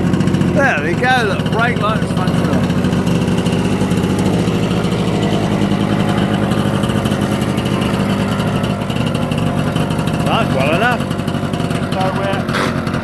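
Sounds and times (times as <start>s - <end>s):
two-stroke engine idling: 0.0s - 13.0s.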